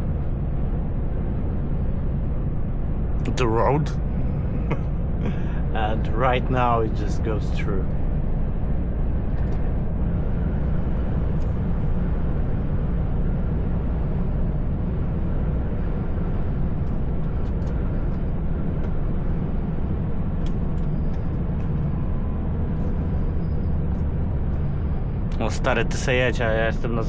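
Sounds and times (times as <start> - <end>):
truck engine and tyres droning: 0.0 - 27.0.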